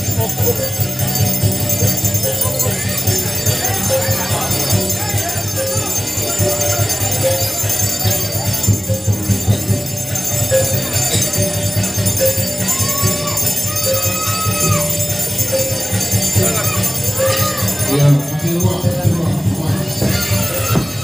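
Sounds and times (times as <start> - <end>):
jingling metal: 0.0 - 21.0.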